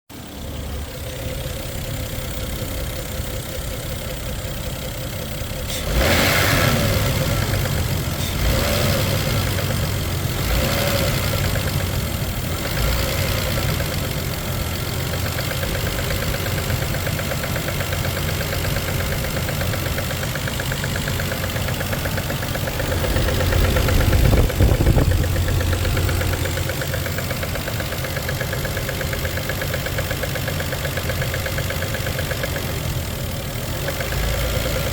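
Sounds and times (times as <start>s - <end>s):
car engine idling and revving: 0.1s - 34.9s
engine knock: 0.1s - 34.9s.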